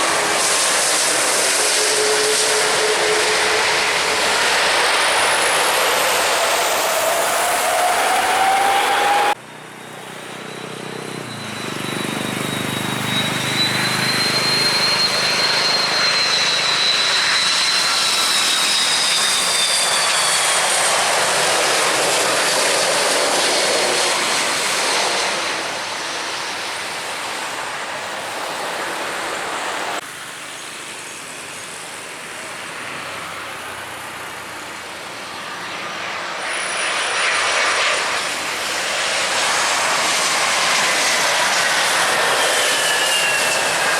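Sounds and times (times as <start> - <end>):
high fan whine: 0.0 - 43.9
jet engines roaring: 0.0 - 43.9.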